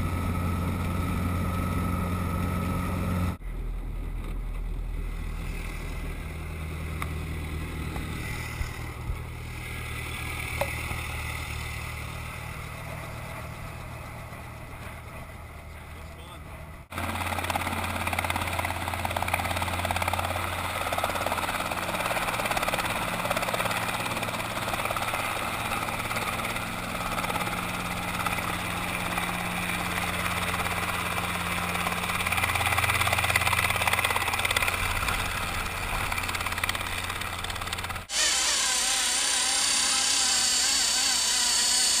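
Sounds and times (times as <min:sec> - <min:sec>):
helicopter engine and rotor: 0:00.0 - 0:03.4, 0:05.0 - 0:38.5
model helicopter whine: 0:00.0 - 0:42.0.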